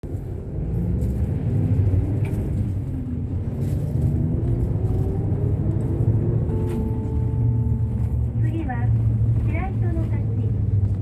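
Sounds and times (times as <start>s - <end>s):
bus engine rumbling: 0.0s - 11.0s
road noise: 0.0s - 11.0s.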